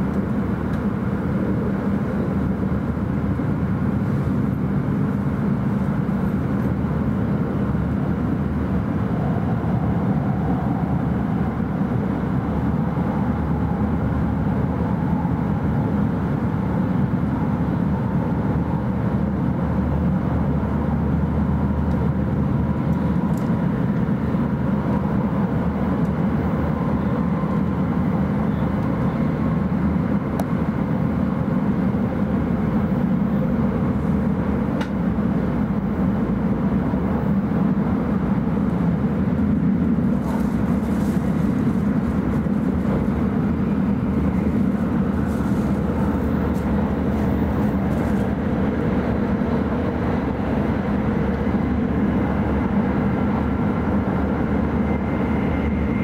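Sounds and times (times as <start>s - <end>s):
train interior low rumble: 0.0s - 56.0s.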